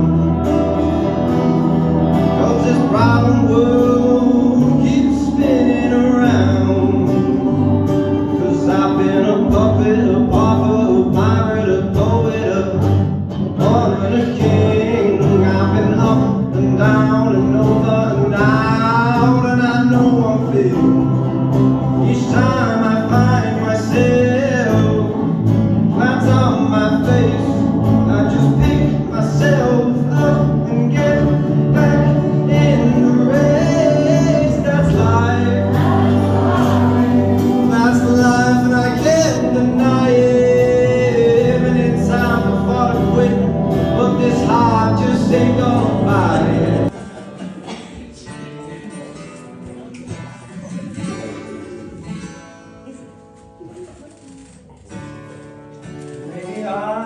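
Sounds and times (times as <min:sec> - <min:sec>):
man singing: 0:00.0 - 0:49.2, 0:56.2 - 0:57.0
live rock band: 0:00.0 - 0:52.0
quiet guitar playing: 0:00.0 - 0:57.0.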